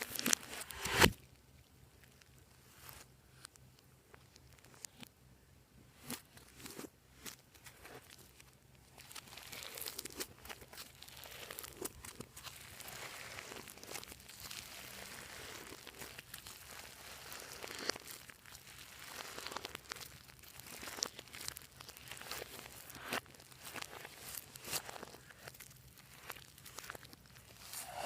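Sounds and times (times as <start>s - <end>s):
slime crackling and popping: 0.0s - 5.2s, 5.8s - 28.0s.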